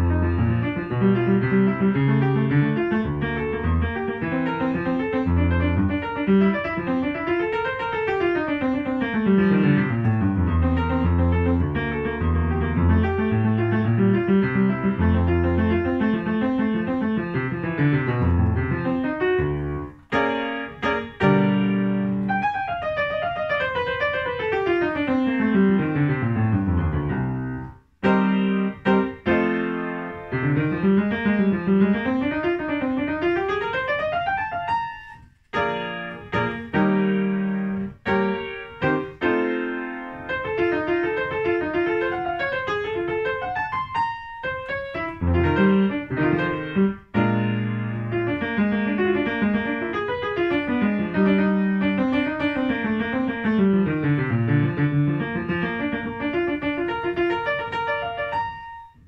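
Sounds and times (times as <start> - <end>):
grand piano classical piece: 0.0 - 59.0.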